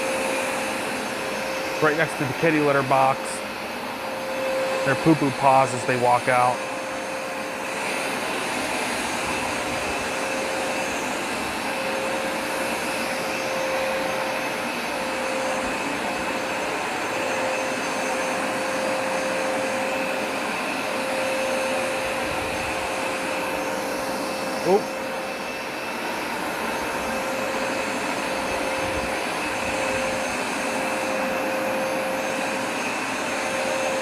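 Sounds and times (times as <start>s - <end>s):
carpet cleaner motor running: 0.0s - 34.0s.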